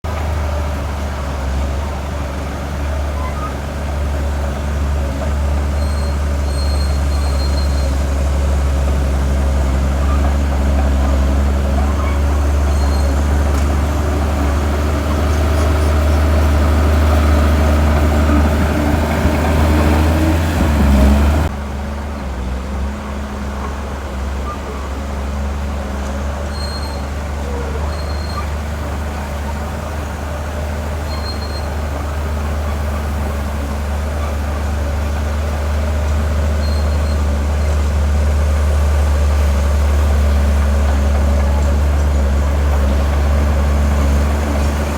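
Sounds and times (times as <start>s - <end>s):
heavy diesel machinery droning: 0.0s - 44.9s.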